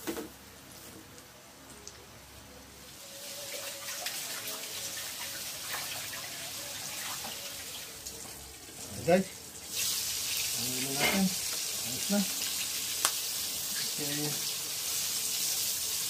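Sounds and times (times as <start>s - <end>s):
chicken wings deep-frying in oil: 0.0s - 16.0s.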